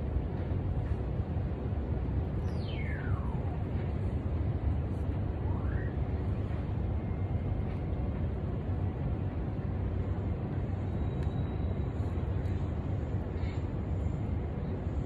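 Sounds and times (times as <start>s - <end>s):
city background rumble: 0.0s - 15.0s.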